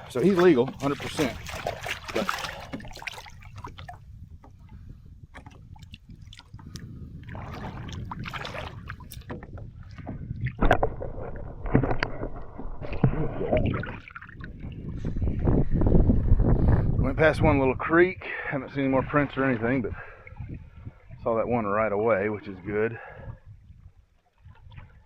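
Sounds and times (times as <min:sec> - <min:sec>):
water sloshing and splashing: 0:00.0 - 0:16.3, 0:18.6 - 0:25.0.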